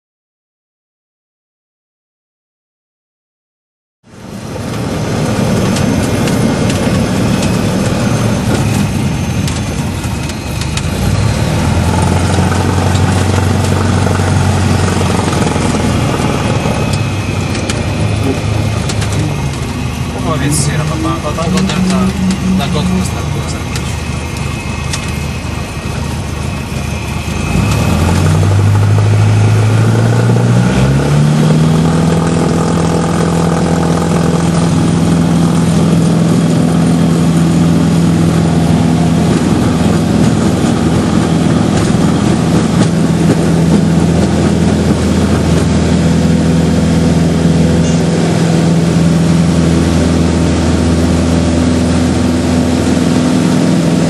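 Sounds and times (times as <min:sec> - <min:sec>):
propeller plane engine: 0:04.0 - 0:54.0.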